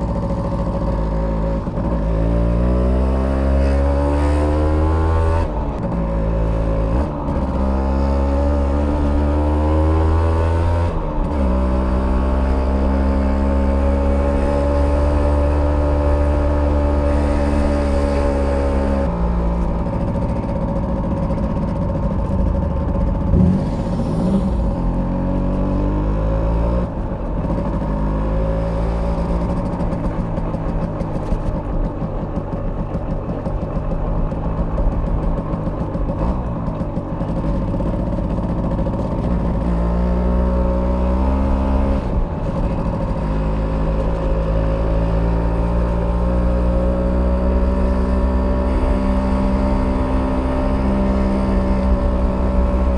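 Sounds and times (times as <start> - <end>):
moped engine running: 0.0 - 52.9.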